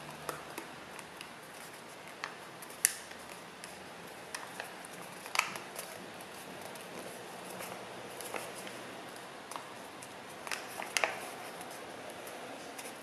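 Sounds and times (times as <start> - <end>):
paper crinkles and clicks: 0.1 - 13.0
paper rustling: 1.4 - 13.0.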